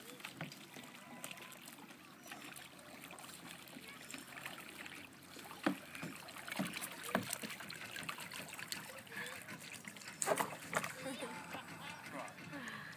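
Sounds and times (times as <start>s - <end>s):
paddle splashing in water: 0.0s - 12.7s
water trickling off paddle: 0.0s - 12.9s.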